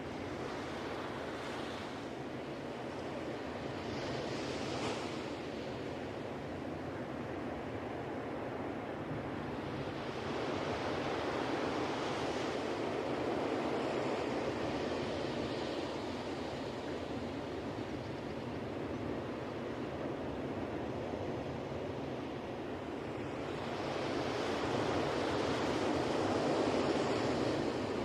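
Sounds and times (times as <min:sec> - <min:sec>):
ocean waves washing onto beach: 0:00.0 - 0:28.0.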